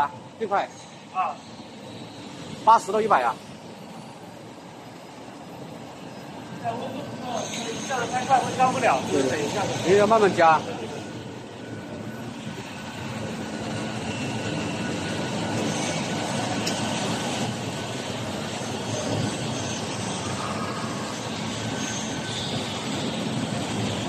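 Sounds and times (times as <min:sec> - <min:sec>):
printing press rollers whirring: 0:00.0 - 0:24.0.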